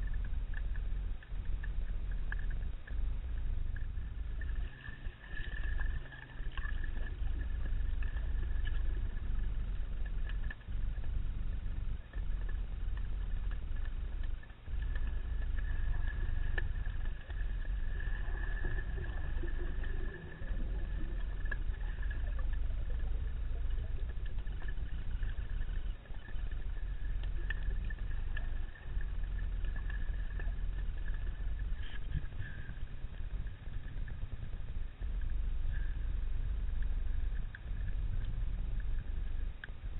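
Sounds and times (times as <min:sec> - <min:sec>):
low rumble of moving water: 0:00.0 - 0:39.9.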